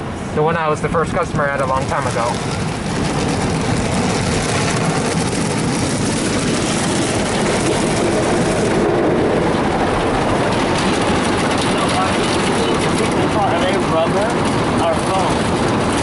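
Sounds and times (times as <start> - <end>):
car wash spray and scrubbing: 0.3 - 16.0.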